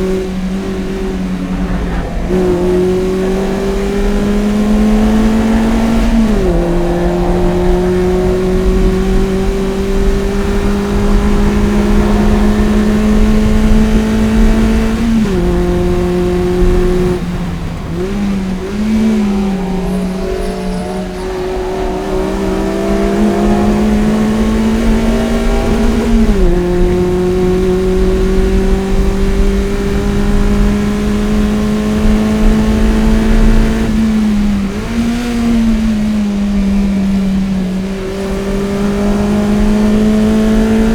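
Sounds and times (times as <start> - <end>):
car engine revving hard: 0.0 - 40.9.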